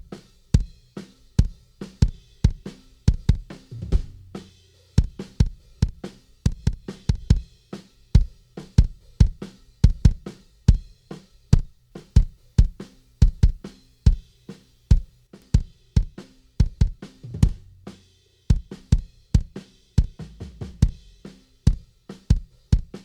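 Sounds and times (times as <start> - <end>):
kick and snare drum beat: 0.0 - 23.0.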